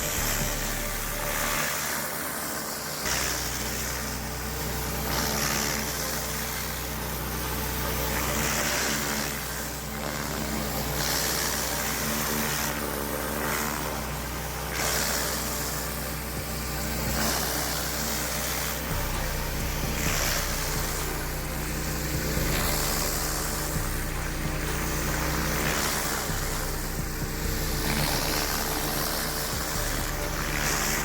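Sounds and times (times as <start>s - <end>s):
high-pressure water spraying: 0.0s - 31.0s
pressure washer engine running: 0.0s - 31.0s.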